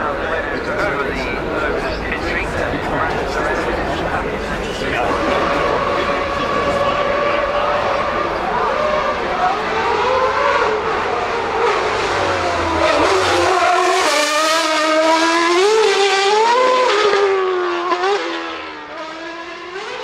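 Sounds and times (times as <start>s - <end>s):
race car engine rising and falling: 0.0s - 20.0s.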